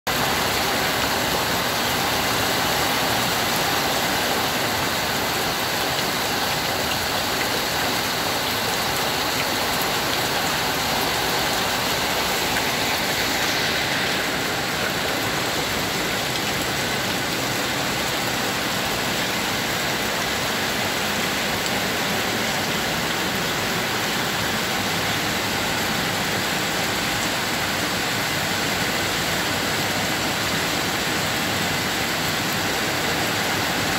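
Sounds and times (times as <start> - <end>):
rain on foliage and water: 0.1 - 33.9.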